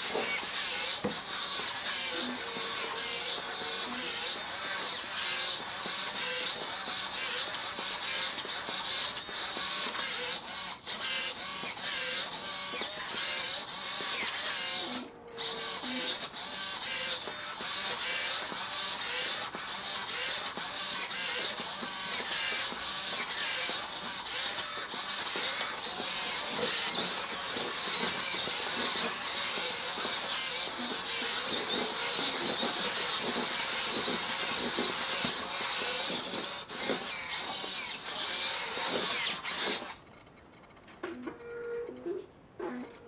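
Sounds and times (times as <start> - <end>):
servos whining and buzzing: 0.0 - 43.0.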